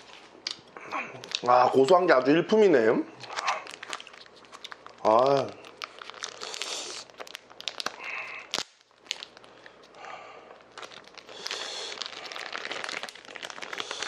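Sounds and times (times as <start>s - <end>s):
plastic packet crinkling and tearing: 1.2s - 2.0s, 3.2s - 14.0s.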